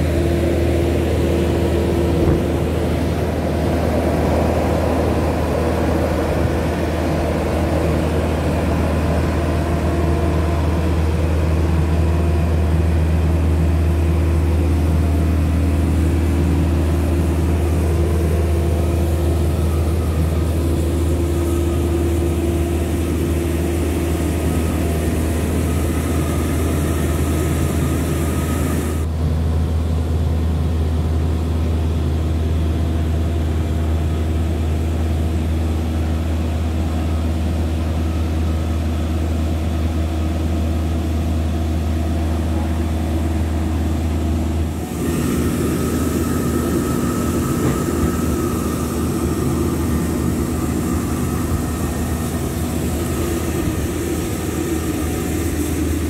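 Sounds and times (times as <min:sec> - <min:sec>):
generator low hum: 0:00.0 - 0:56.0.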